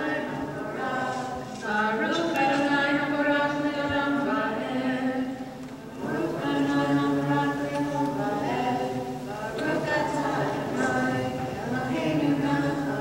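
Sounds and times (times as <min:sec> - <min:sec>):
group chanting in unison: 0:00.0 - 0:13.0.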